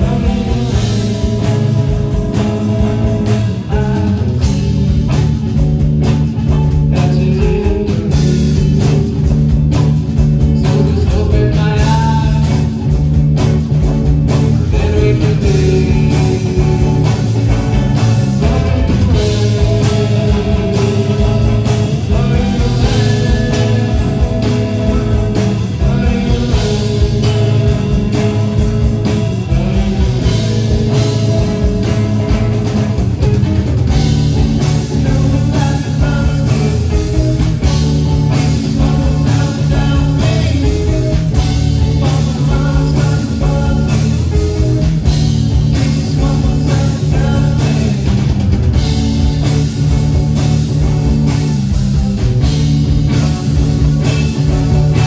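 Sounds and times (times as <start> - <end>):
bass guitar: 0.0 - 55.0
distorted electric guitars: 0.0 - 55.0
drum kit beat: 0.0 - 55.0.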